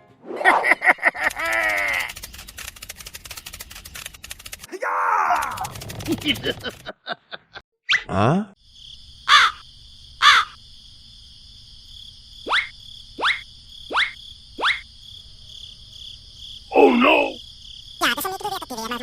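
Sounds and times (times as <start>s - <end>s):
insects droning: 0.8s - 7.0s, 8.6s - 19.0s.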